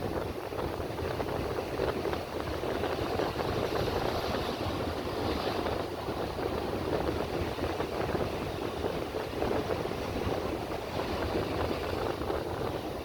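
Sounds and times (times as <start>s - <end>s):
surf washing: 0.0s - 13.0s
wind buffeting microphone: 0.0s - 13.0s.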